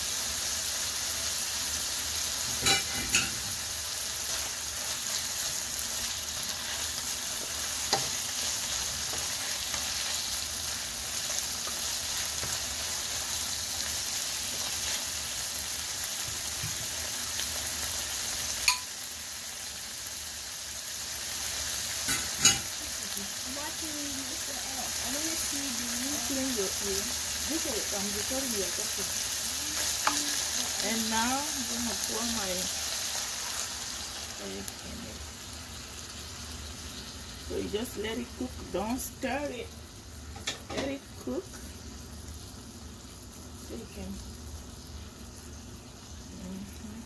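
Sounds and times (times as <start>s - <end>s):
vegetables sizzling in a frying pan: 0.0s - 47.0s.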